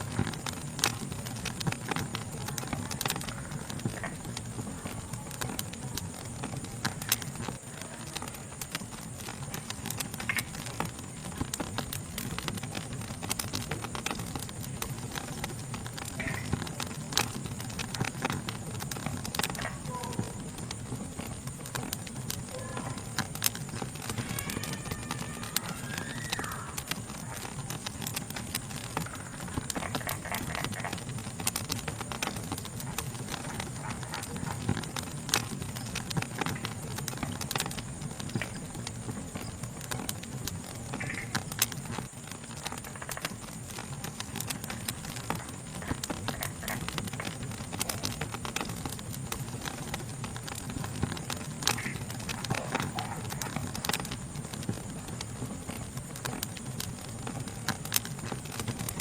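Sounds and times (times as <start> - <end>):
insect chorus: 0.0 - 59.0
wood fire crackling: 0.0 - 59.0.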